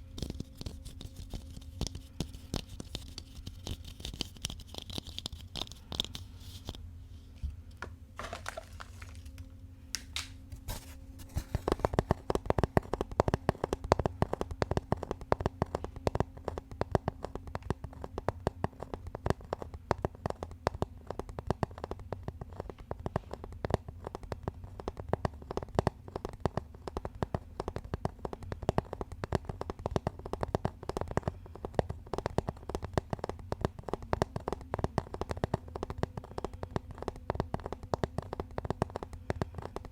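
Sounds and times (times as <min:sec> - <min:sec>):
fingers tapping rapidly: 0:00.0 - 0:06.8, 0:11.2 - 0:39.9.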